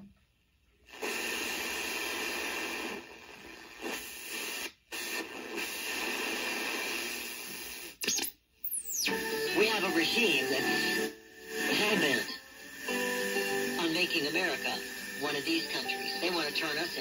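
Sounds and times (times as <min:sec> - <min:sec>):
radio static hiss: 0:00.9 - 0:17.0.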